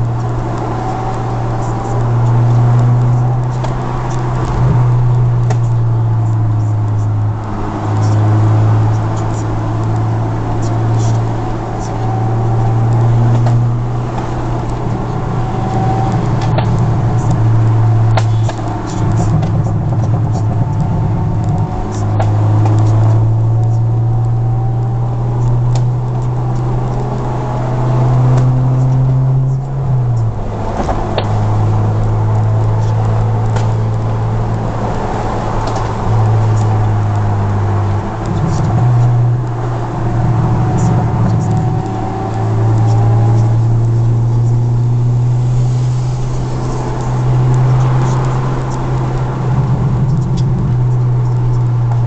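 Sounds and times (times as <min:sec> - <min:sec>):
car engine drone from inside cabin: 0:00.0 - 0:52.0.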